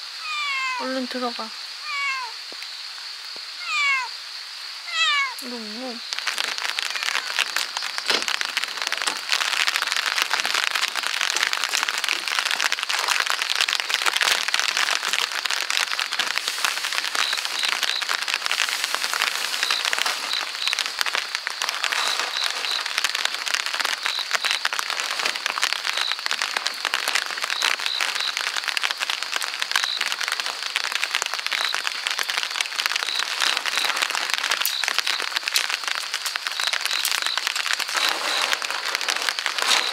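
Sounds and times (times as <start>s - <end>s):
rain on wooden deck and tent: 0.0s - 39.9s.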